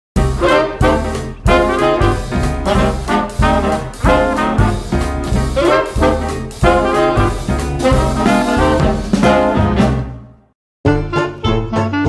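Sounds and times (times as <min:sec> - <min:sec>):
upbeat swing music with brass: 0:00.2 - 0:12.0.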